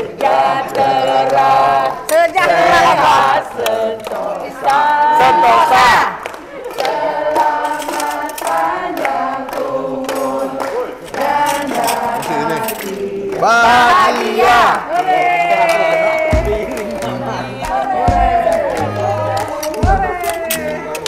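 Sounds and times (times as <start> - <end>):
group singing in unison: 0.0 - 21.0
hand-clapping: 0.1 - 2.6, 3.5 - 5.4, 6.1 - 21.0.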